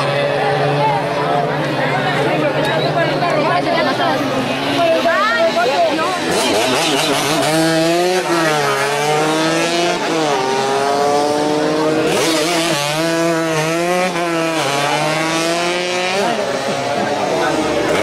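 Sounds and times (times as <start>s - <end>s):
racing motorcycle engine revving: 0.0s - 18.0s.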